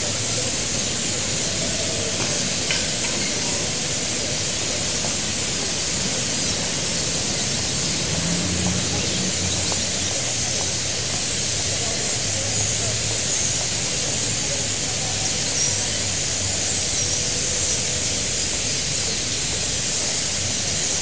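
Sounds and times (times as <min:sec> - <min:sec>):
flock of starlings chattering: 0:00.0 - 0:21.0.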